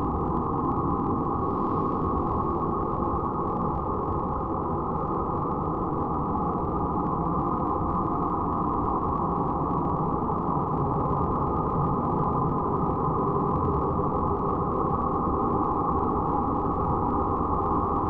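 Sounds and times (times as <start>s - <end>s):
low rumbling noise drone: 0.0s - 18.0s.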